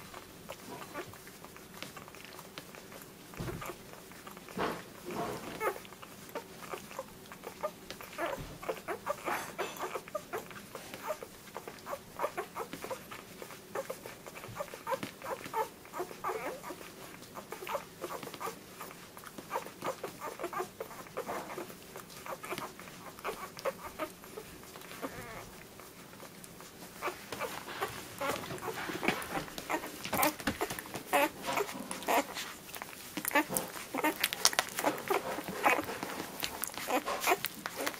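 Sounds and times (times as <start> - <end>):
puppies squeaking and grunting: 0.0 - 37.9.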